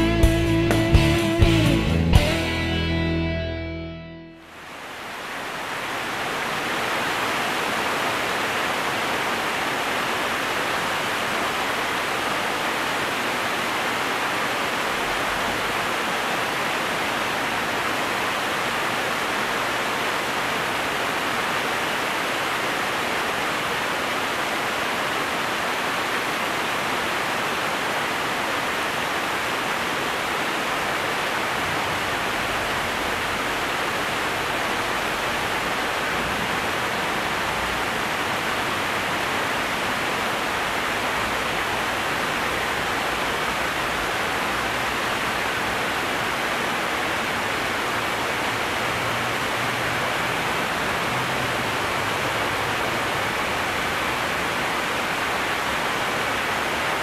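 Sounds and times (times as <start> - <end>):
water rushing: 4.4 - 57.0.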